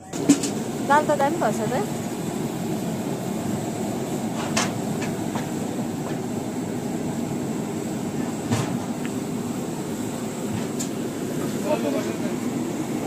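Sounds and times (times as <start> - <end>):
pot boiling with rumbling roar: 0.0 - 13.0.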